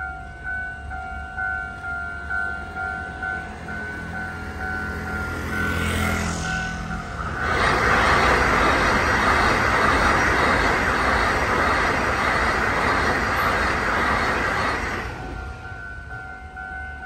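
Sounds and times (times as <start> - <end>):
train wheels rushing on rails: 0.0 - 17.0.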